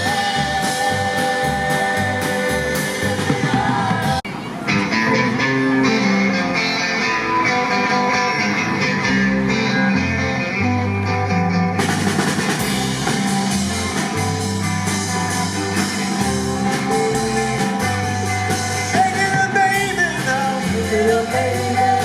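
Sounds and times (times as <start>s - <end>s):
bass riff: 0.0s - 22.0s
drums: 0.0s - 22.0s
electric guitar riff: 0.0s - 22.0s.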